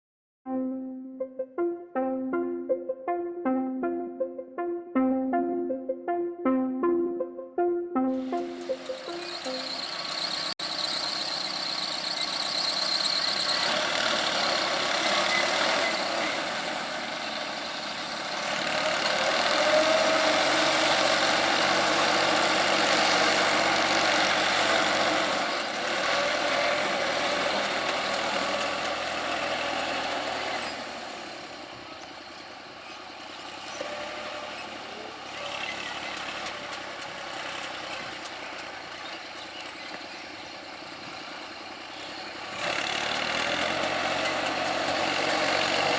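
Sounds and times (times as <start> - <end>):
tractor diesel engine working hard: 8.4 - 45.9.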